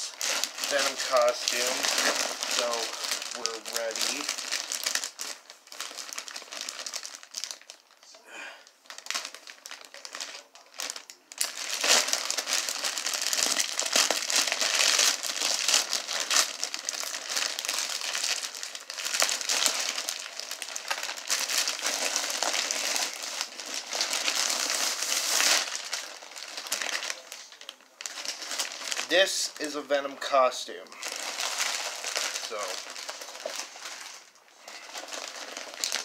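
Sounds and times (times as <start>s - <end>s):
plastic packaging crinkling: 0.0s - 36.0s.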